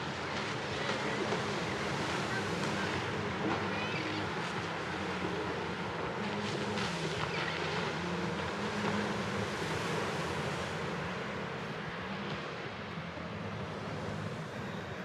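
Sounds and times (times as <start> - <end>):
beach surf: 0.0 - 15.0
low engine drone: 0.0 - 15.0.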